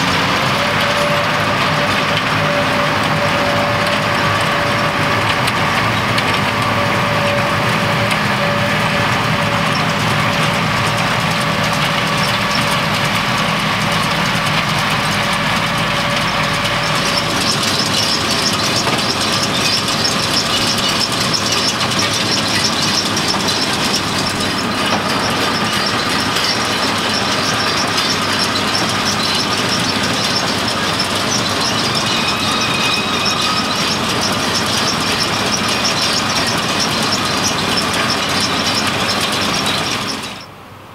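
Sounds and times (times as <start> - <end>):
tractor engine drone: 0.0 - 40.9
baler clattering: 0.8 - 40.4.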